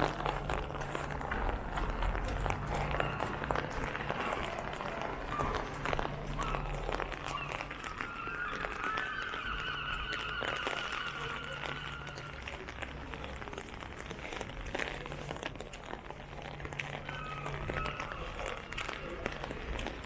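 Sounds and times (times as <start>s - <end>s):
rain pattering on an umbrella: 0.0s - 20.0s
wet street noise: 0.0s - 20.0s.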